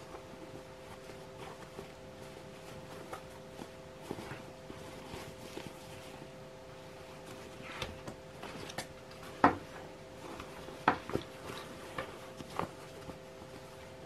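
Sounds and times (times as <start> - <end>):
fabric rustling: 0.0 - 14.0
faint steady hum: 0.0 - 14.0.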